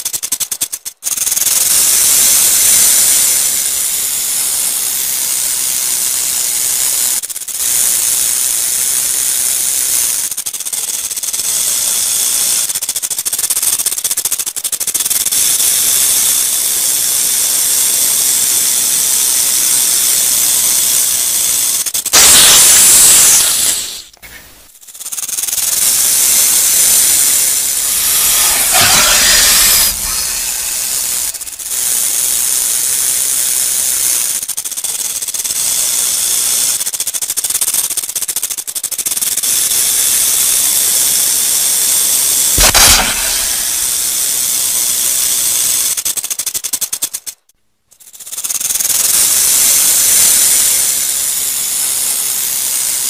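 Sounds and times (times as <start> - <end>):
rattlesnake tail rattle buzz: 0.0 - 53.0.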